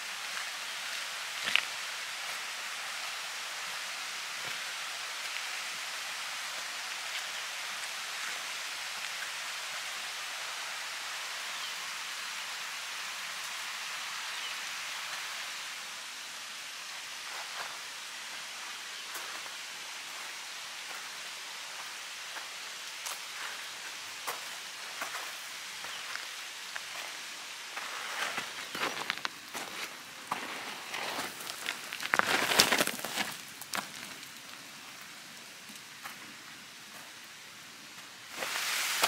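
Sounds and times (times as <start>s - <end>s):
waterfall rushing: 0.0s - 35.2s, 38.1s - 39.0s.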